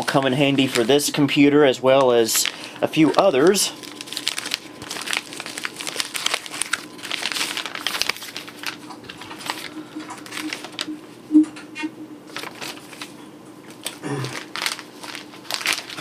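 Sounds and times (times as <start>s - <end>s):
paper wrapping crinkling: 0.0s - 1.4s, 2.1s - 10.8s, 12.3s - 16.0s.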